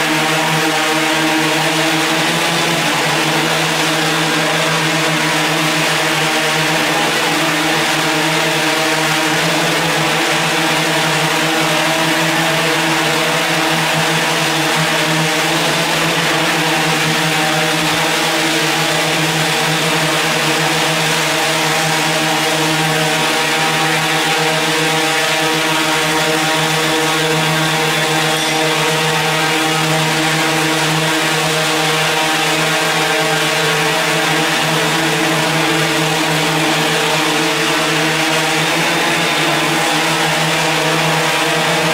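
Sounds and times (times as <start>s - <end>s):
drone propellers humming: 0.0s - 41.9s.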